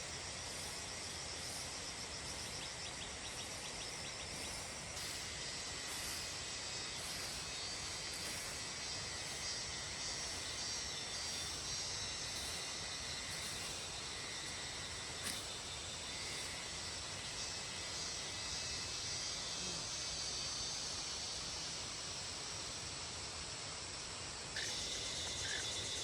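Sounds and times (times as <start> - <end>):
background hiss: 0.0 - 26.0
insects chirring: 0.0 - 26.0.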